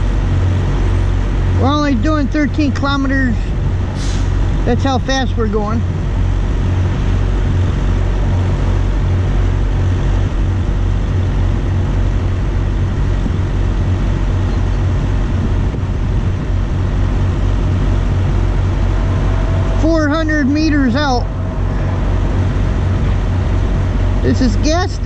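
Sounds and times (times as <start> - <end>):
loud low rumble: 0.0 - 25.0.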